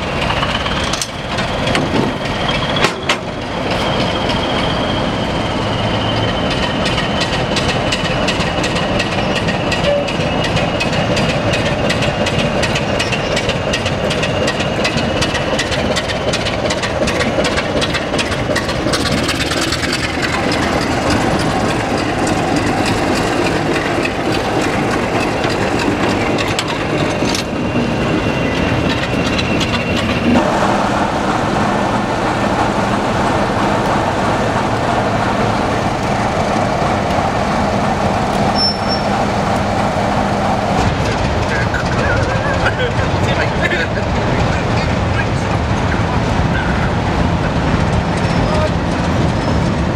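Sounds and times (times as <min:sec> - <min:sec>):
diesel locomotive engines running: 0:00.0 - 0:49.9.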